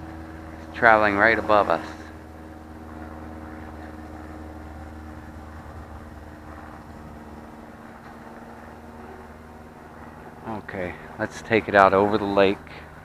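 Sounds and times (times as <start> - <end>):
propellers and motors humming: 0.0 - 13.0.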